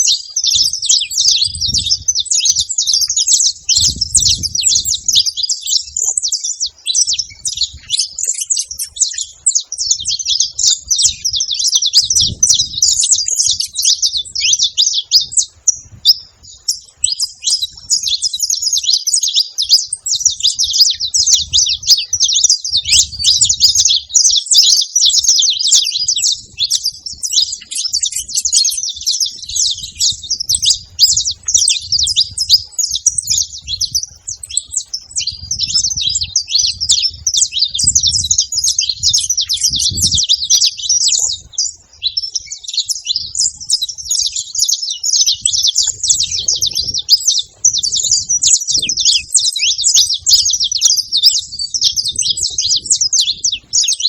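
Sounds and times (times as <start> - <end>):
finches chirping and singing: 0.0 - 54.0.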